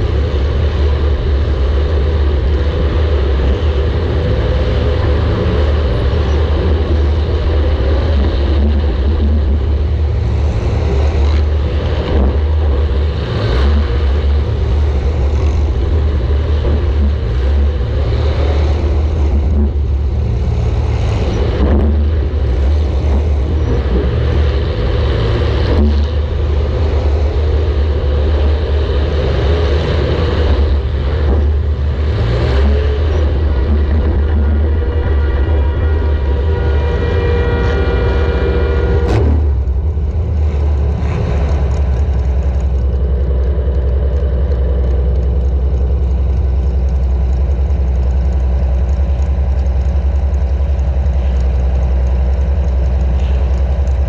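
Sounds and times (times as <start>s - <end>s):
car engine running hard: 0.0s - 54.0s.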